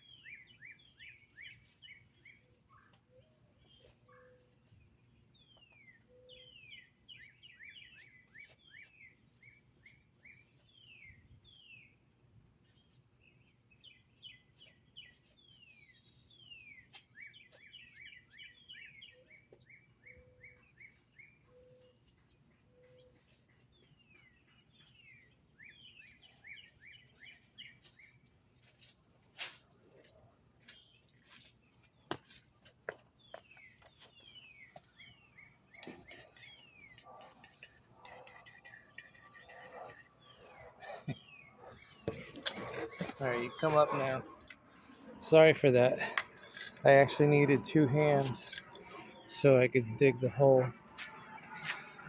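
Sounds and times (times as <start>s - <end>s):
songbird singing: 0.0s - 52.0s.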